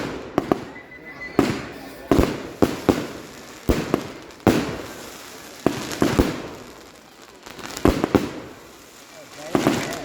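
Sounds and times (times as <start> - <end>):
fireworks exploding with echo: 0.0 - 10.0.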